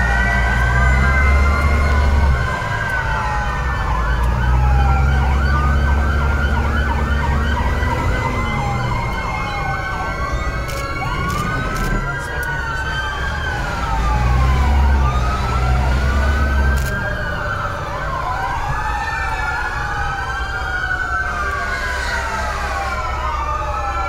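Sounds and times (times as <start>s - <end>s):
fire engine sirens wailing: 0.0s - 24.0s.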